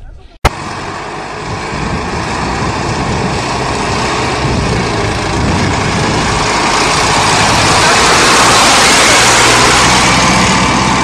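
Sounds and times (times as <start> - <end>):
tractor engine running: 0.4 - 11.0.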